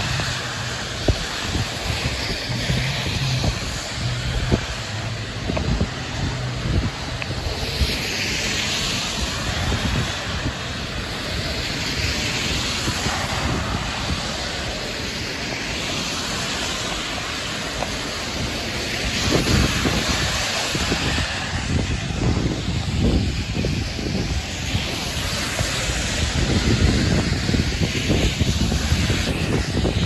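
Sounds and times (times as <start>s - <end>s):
tyres hissing through water: 0.0s - 30.0s
wind buffeting microphone: 0.0s - 30.0s.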